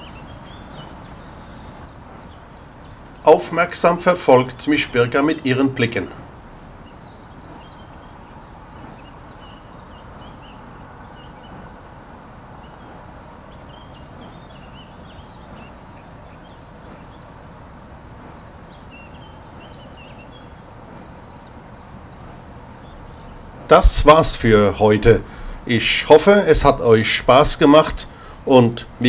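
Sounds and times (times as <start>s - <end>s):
low background rumble: 0.0s - 29.0s
small birds chirping: 0.0s - 29.0s.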